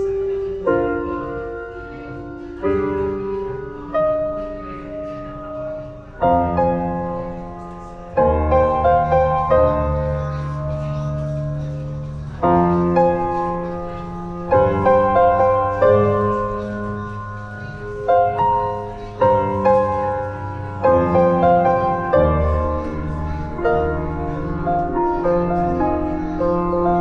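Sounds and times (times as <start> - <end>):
slow piano chords and melody: 0.0 - 27.0.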